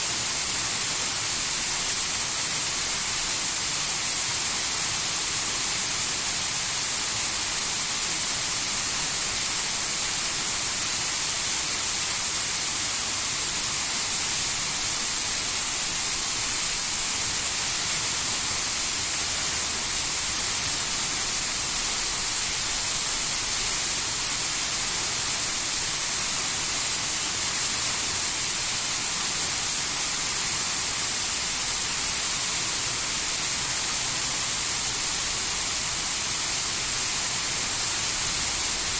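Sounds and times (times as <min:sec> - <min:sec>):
waterfall rushing water: 0:00.1 - 0:38.9.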